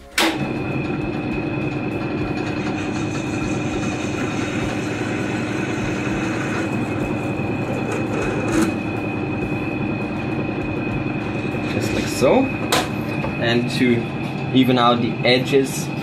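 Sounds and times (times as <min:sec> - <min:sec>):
metal lathe humming and whining: 0:00.3 - 0:16.0.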